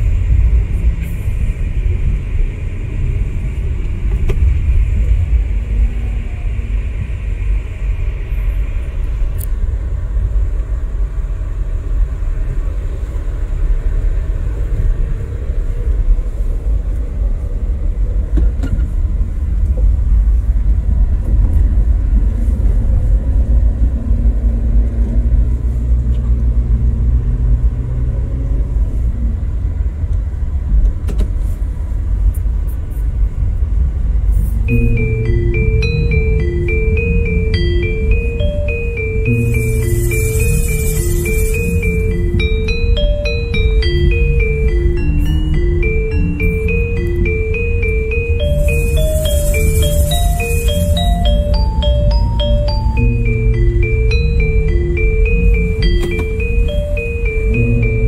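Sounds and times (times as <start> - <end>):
engine and tyres rumbling: 0.0 - 58.0.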